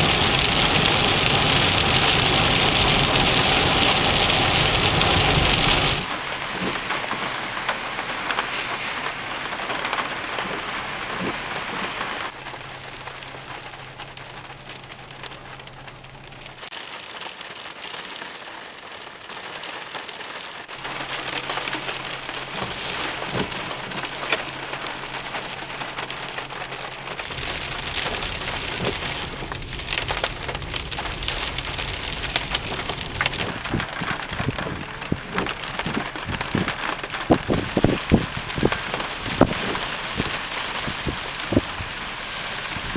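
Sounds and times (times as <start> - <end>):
heavy rain falling: 0.0 - 42.9
sharp raindrop impacts: 0.0 - 42.9.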